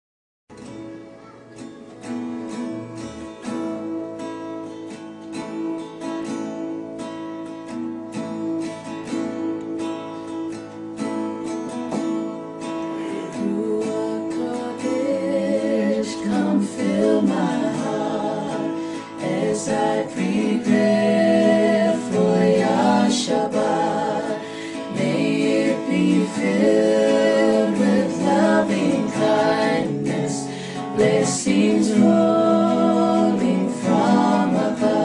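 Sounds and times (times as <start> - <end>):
acoustic guitar strumming: 0.5 - 35.0.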